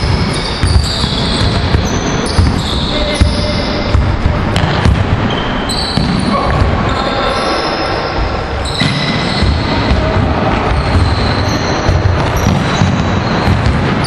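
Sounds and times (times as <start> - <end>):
basketball bouncing on wooden floor: 0.0 - 6.9, 8.7 - 14.0
sneakers squeaking: 0.0 - 14.0.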